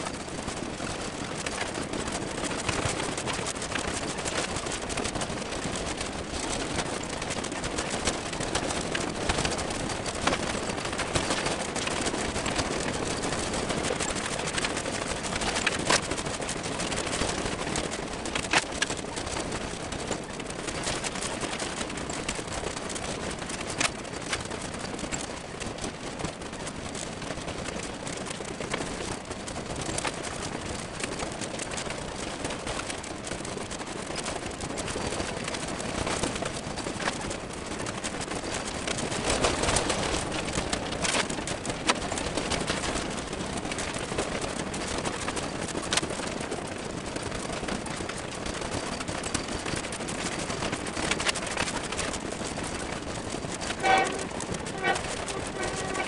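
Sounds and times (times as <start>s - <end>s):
train rattling along rails: 0.0s - 56.0s.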